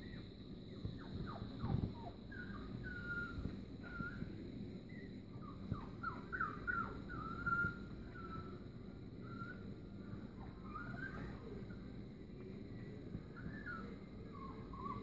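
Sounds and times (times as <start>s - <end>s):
puppies whining: 0.0s - 12.0s, 12.8s - 15.0s.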